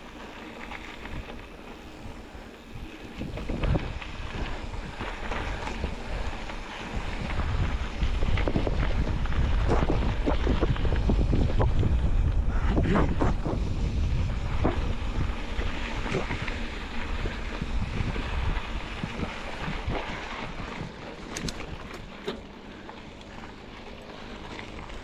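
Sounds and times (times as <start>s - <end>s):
wind buffeting microphone: 0.3s - 22.2s.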